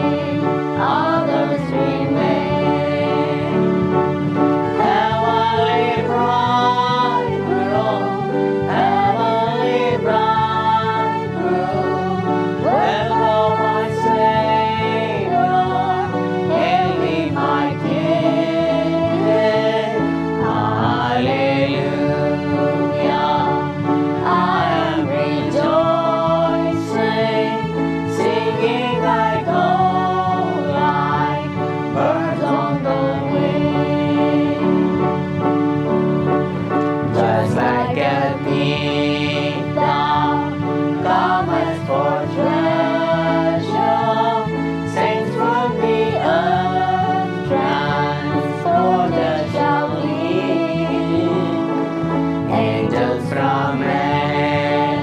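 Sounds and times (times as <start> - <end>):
congregation singing a hymn: 0.0 - 55.0
instrumental accompaniment: 0.0 - 55.0
sustained keyboard with bass line: 0.0 - 55.0.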